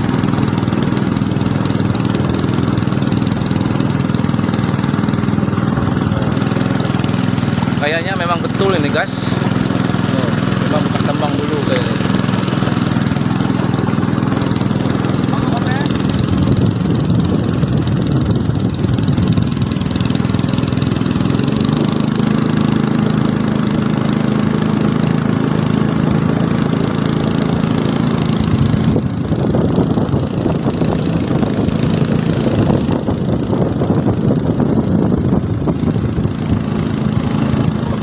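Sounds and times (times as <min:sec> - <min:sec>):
small boat engine running: 0:00.0 - 0:38.0.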